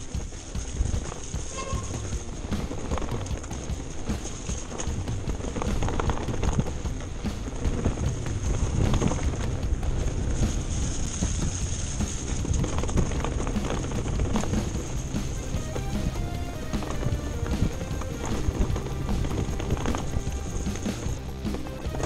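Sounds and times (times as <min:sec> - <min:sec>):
wind on microphone: 0:00.0 - 0:21.4
bike rattling over bumps: 0:00.0 - 0:22.0
bike tyres rumbling on dirt: 0:00.0 - 0:22.0.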